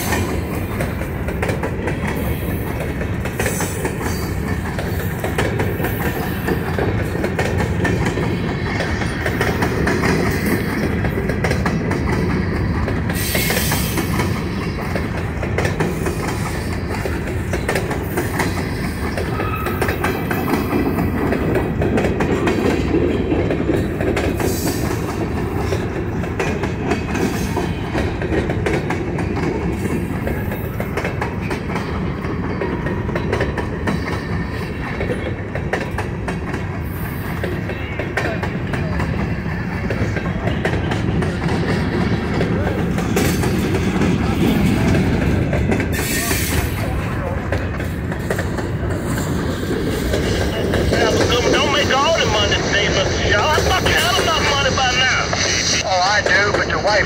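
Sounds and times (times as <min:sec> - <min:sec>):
railroad cars rolling past: 0:00.0 - 0:57.0.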